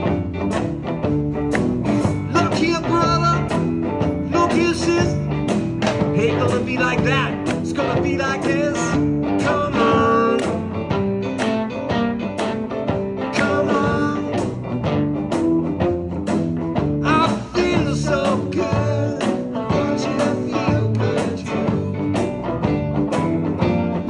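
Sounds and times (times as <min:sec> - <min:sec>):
electric guitars: 0:00.0 - 0:24.0
steady drum beat: 0:00.0 - 0:24.0.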